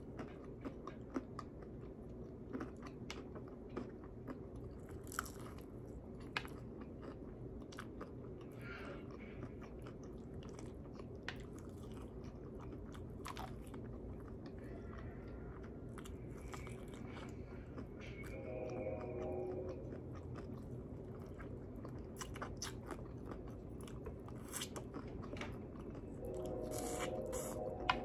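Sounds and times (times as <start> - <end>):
chewing fried chicken: 0.0 - 28.0.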